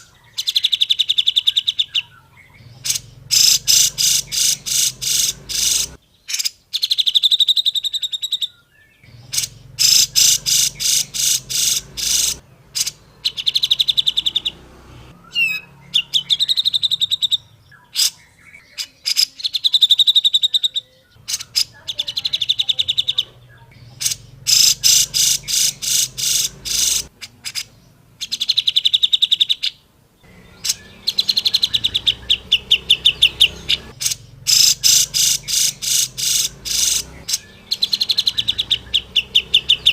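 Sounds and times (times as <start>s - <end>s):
bird chattering calls: 0.0s - 39.9s.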